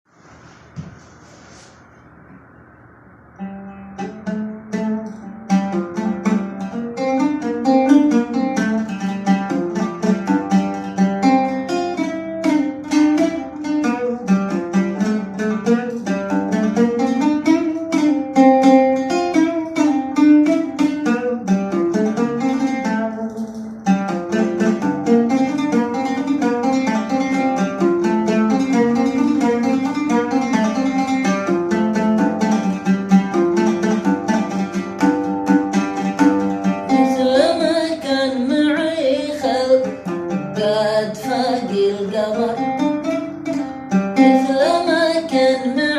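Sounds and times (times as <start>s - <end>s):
song with plucked string instrument: 3.3s - 45.9s.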